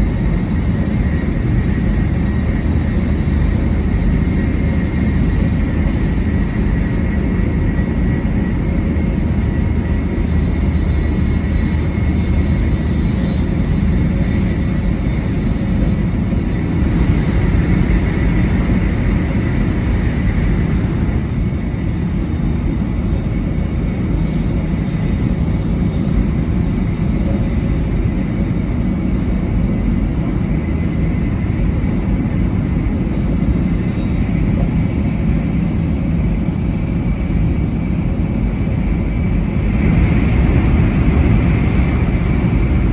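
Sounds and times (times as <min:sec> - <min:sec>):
high-speed train rumble: 0:00.0 - 0:42.9.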